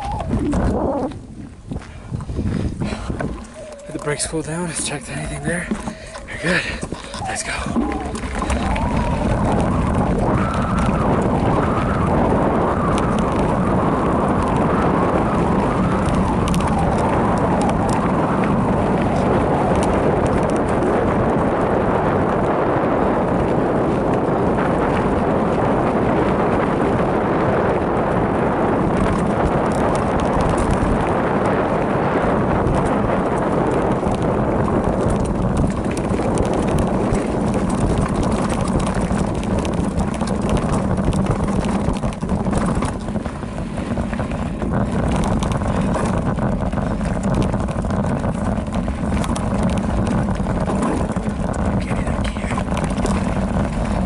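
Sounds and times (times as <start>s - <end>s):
bike clicking and rattling: 0.0s - 54.0s
tyre noise on dirt: 0.0s - 54.0s
wind over microphone: 0.0s - 54.0s.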